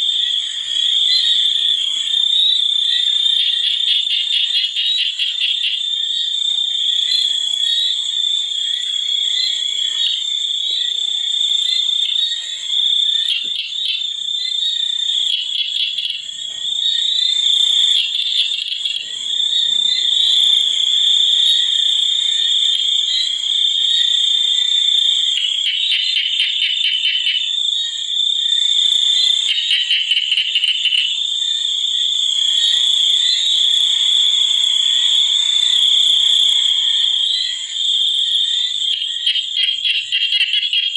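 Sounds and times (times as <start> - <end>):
high-pitched frog and insect drone: 0.0 - 40.9
rapid pulsing frog calls: 0.0 - 40.9.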